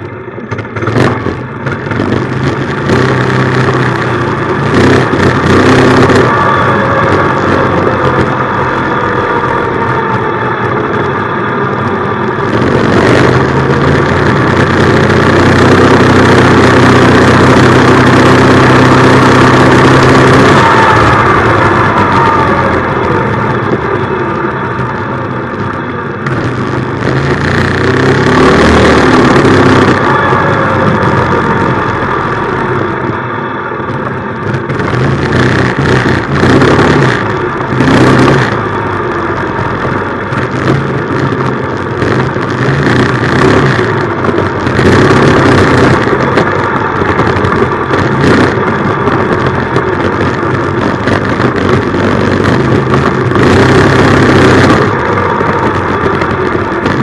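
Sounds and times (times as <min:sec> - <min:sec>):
minibike engine revving: 0:00.0 - 0:57.0.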